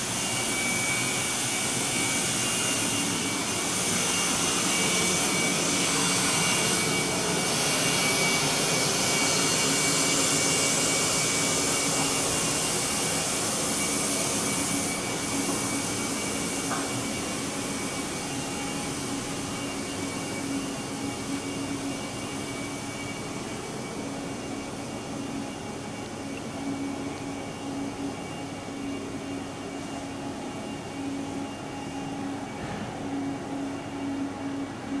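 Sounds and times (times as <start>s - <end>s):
train equipment whirring hum: 0.0s - 35.0s.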